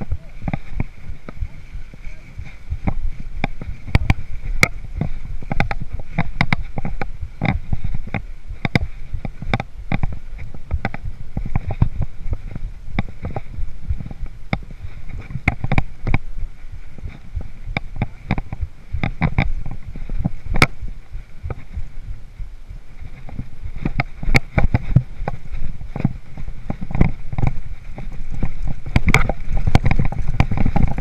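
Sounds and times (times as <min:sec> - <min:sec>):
bike clicks and rattles: 0:00.0 - 0:21.8, 0:23.0 - 0:31.0
mountain bike on dirt trail: 0:00.0 - 0:31.0.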